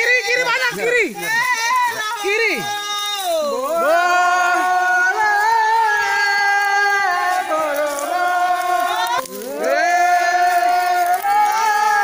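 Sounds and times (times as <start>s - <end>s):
person chanting a long call: 0.0s - 12.0s.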